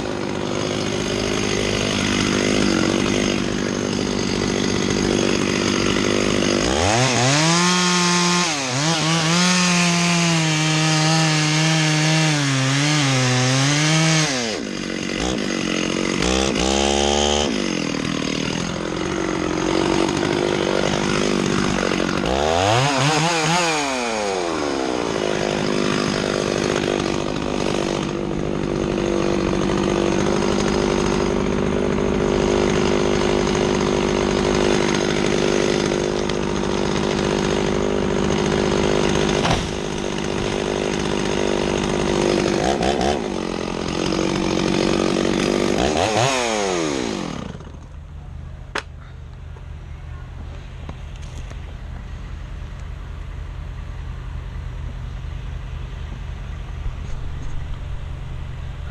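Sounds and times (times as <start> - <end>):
chainsaw revving and cutting: 0.0 - 48.0.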